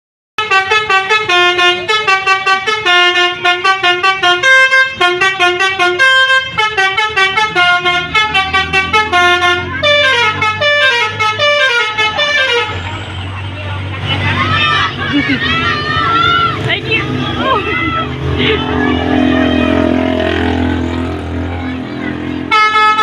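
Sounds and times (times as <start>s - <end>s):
multi-tone bus horn melody: 0.4s - 13.5s, 15.4s - 23.0s.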